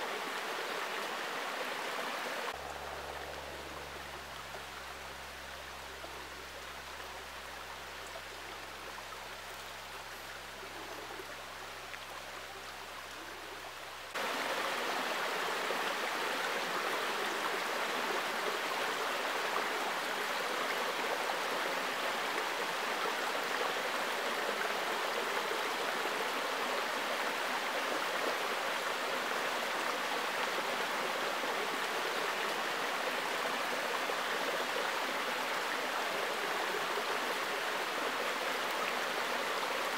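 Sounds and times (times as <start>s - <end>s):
creek water rushing over stones: 0.0s - 39.9s.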